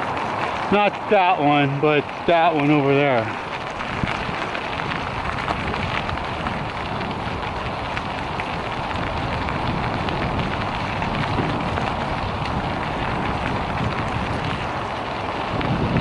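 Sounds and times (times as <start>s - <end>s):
grit crackling under tyres: 0.0s - 16.0s
tyre and wind noise: 0.0s - 16.0s.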